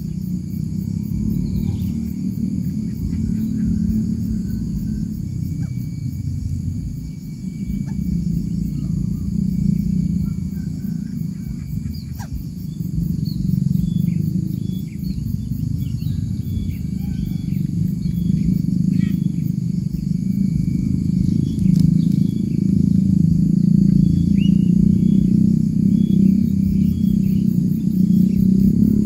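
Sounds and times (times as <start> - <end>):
high-pitched insect drone: 0.0 - 29.0
low rumbling noise: 0.0 - 29.0
small birds chirping: 0.0 - 29.0.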